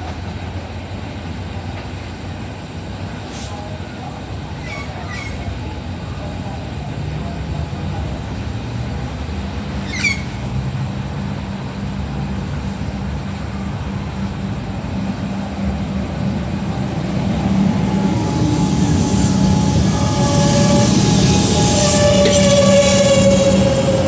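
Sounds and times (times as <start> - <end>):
train humming: 0.0 - 24.0.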